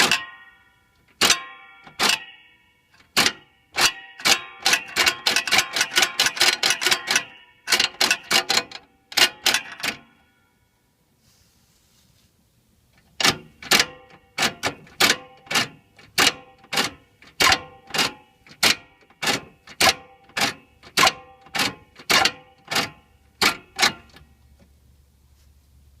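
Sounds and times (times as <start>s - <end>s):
sharp metallic clanks: 0.0s - 10.5s, 13.0s - 24.4s.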